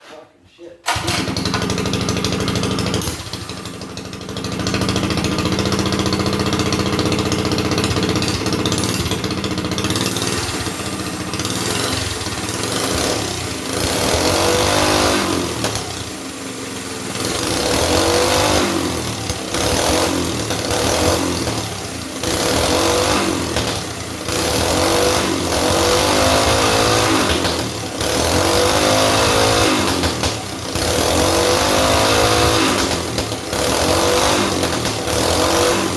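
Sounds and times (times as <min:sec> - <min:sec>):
small engine revving: 0:00.9 - 0:35.9.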